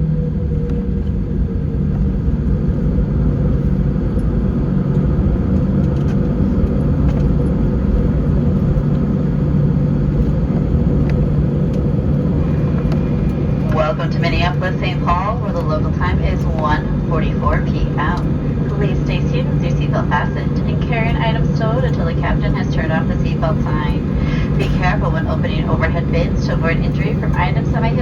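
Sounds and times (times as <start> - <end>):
aircraft cabin engine rumble: 0.0 - 28.0
low hum: 0.0 - 28.0.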